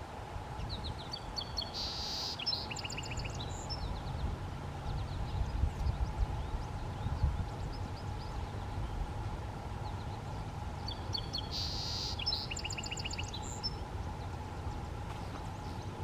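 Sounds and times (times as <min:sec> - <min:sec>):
low outdoor rumble: 0:00.0 - 0:16.0
songbird singing: 0:00.0 - 0:16.0.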